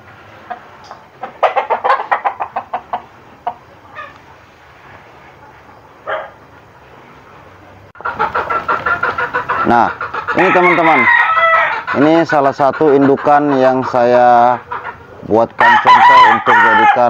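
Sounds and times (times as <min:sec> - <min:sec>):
chicken clucking: 0:00.2 - 0:16.9.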